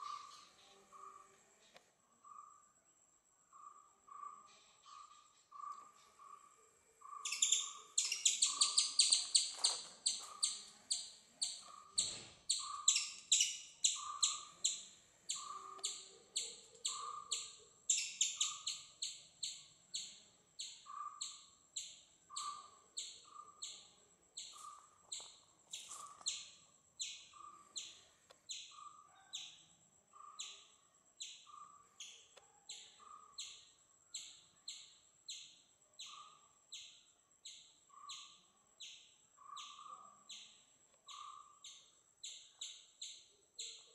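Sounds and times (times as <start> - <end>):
high repeated bird chirps: 0.0 - 1.2, 3.6 - 43.9.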